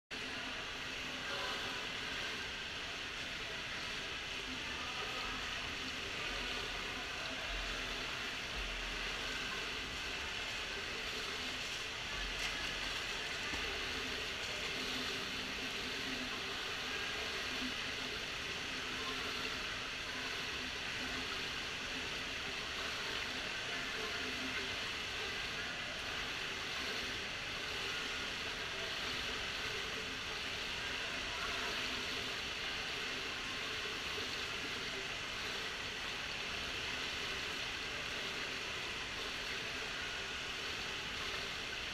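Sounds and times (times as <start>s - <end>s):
low steady hum: 0.1s - 41.9s.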